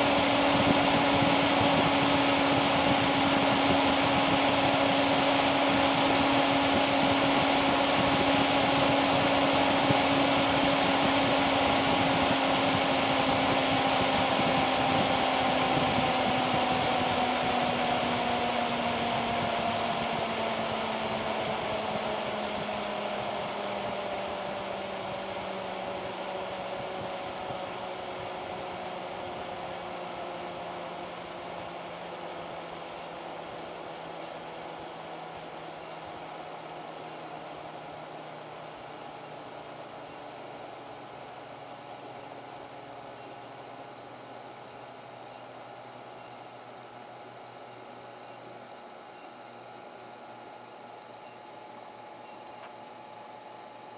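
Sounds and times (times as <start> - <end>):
cooling fan whooshing: 0.0 - 53.9.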